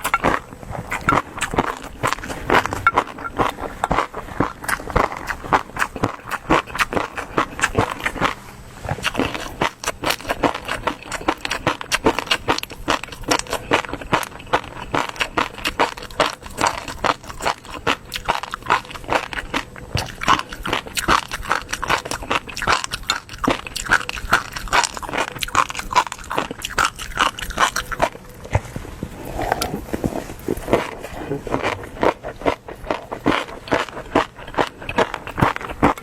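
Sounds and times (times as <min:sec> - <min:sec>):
person chewing and crunching: 0:00.0 - 0:36.0.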